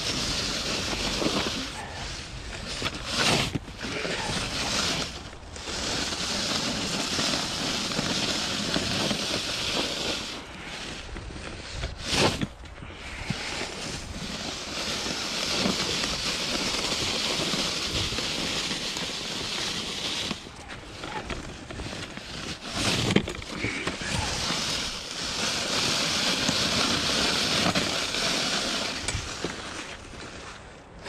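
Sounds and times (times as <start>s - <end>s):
plastic blade scraping concrete: 0.0s - 31.0s.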